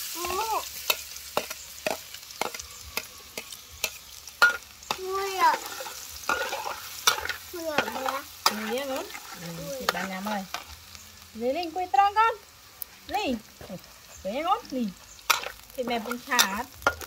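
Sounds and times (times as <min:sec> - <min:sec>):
oil sizzling: 0:00.0 - 0:17.0
metal spatula scraping a wok: 0:00.2 - 0:10.8, 0:13.8 - 0:17.0.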